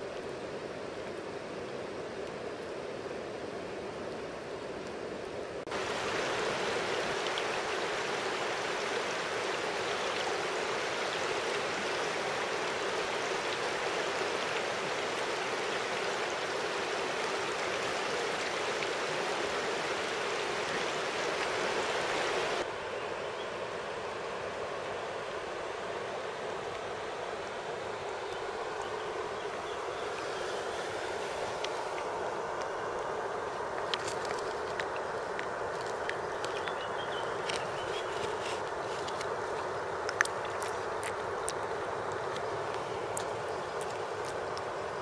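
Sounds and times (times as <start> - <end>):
river water flowing over stones: 0.0 - 22.8, 23.6 - 45.0.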